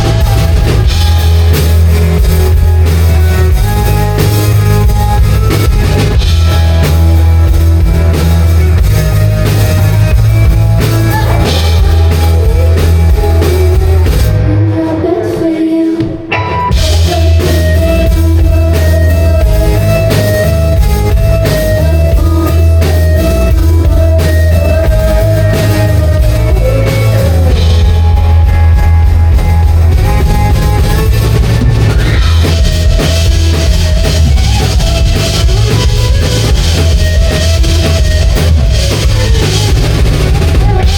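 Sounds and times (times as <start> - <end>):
drums and cymbals: 0.0 - 14.4, 16.0 - 40.9
rock band playing live: 0.0 - 40.9.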